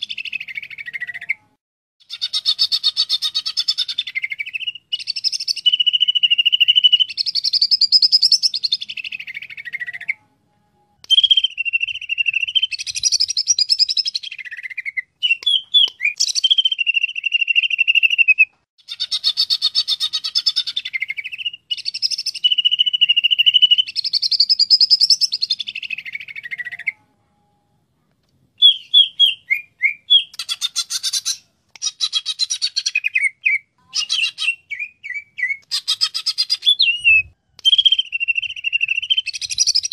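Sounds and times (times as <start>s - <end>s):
bird singing whistles and trills: 0.0s - 27.0s, 28.6s - 39.9s.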